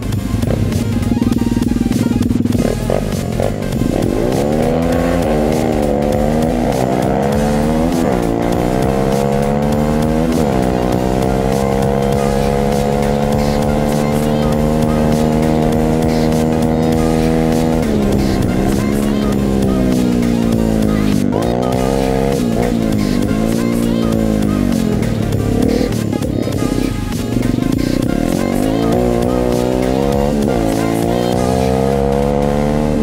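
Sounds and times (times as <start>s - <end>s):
pit bike engine accelerating: 0.0s - 33.0s.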